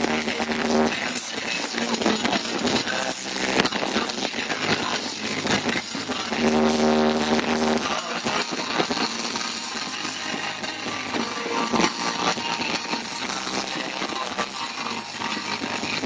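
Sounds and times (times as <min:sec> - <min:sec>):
steady held tone: 0:02.0 - 0:15.8.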